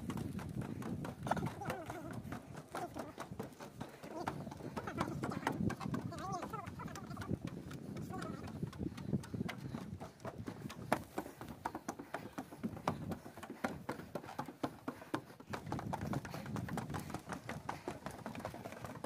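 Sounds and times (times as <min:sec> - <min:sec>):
footsteps on wooden boards: 0:00.0 - 0:19.0.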